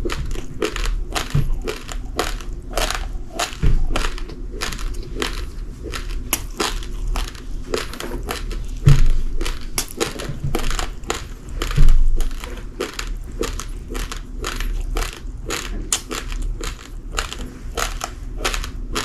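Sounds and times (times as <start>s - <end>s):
chewing uncooked rice: 0.0s - 19.0s.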